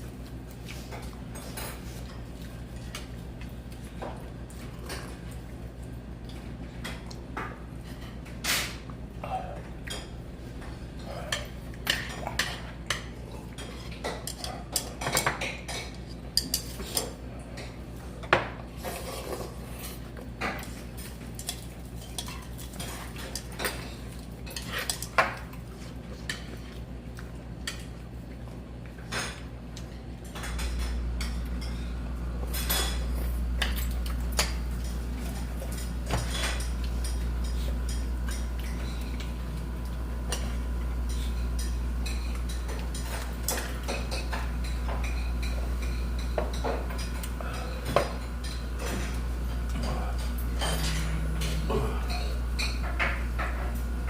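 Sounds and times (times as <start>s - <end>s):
steady low hum: 0.0s - 54.0s
utensils and dishes clinking: 0.7s - 5.4s, 6.2s - 26.7s, 29.0s - 54.0s.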